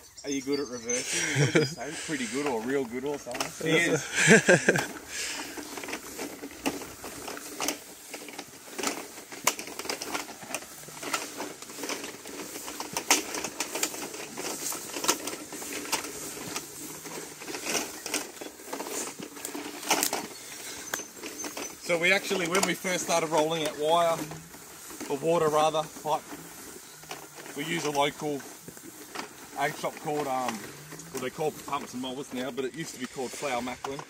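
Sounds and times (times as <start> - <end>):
footsteps: 0.0 - 34.0
plastic pipe coil rolling through grass: 0.0 - 34.0.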